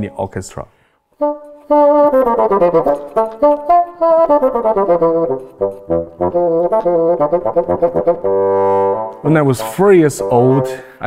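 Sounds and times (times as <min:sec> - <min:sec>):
bassoon playing fast notes: 0:01.2 - 0:10.9.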